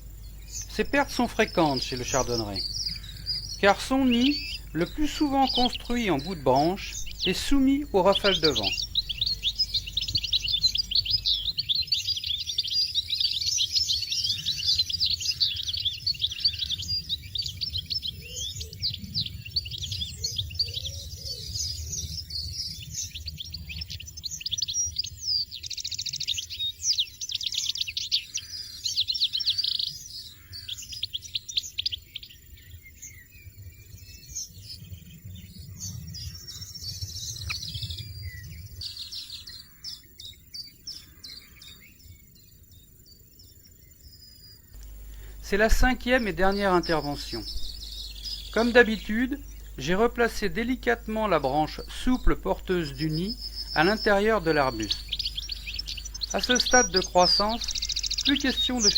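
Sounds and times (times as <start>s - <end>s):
goldfinches chirping and twittering: 0.0s - 58.9s.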